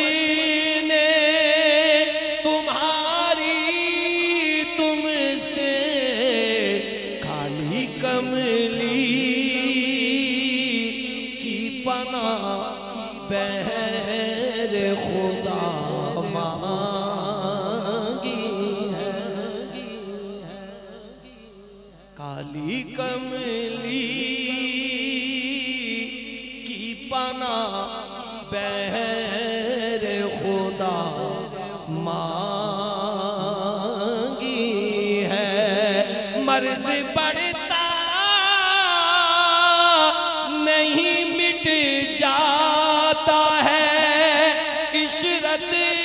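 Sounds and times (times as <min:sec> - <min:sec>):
man singing devotional song: 0:00.0 - 0:46.0.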